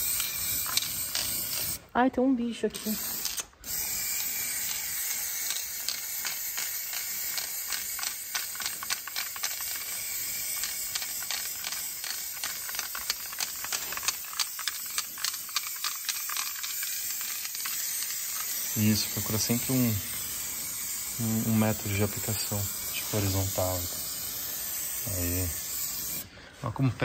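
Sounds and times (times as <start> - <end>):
spray paint hissing: 0.0 - 1.8, 2.8 - 26.3.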